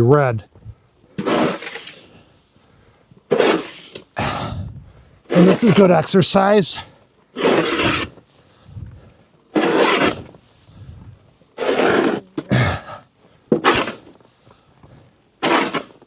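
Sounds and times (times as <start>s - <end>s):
snow shovel scraping snow: 1.0s - 4.5s, 5.2s - 16.0s.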